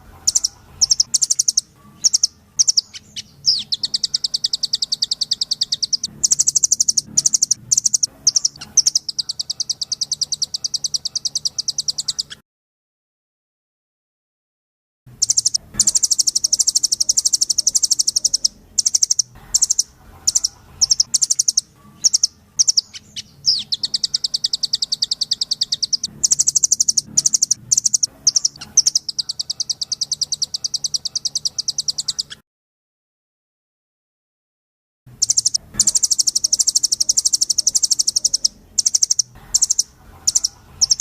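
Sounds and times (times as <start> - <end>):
songbird rattling trills: 0.0 - 12.4, 15.2 - 32.4, 35.2 - 41.0.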